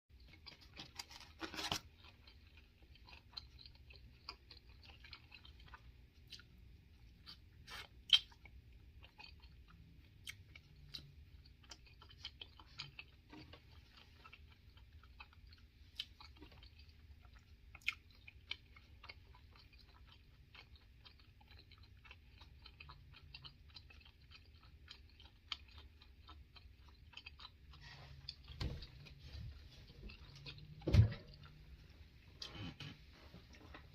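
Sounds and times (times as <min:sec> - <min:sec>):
person chewing: 0:00.1 - 0:33.9.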